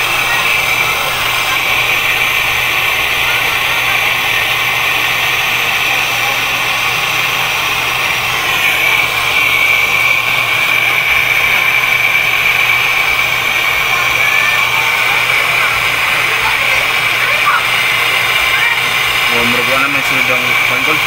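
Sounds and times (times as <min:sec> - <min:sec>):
gas torch hissing: 0:00.0 - 0:21.0.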